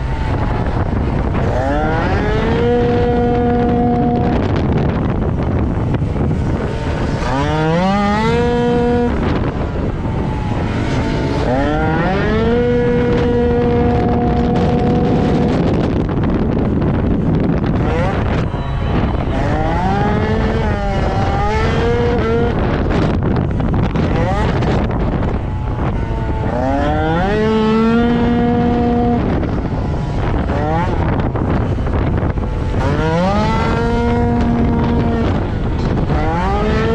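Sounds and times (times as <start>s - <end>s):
scooter engine revving hard: 0.0s - 36.9s
wind noise: 0.0s - 36.9s.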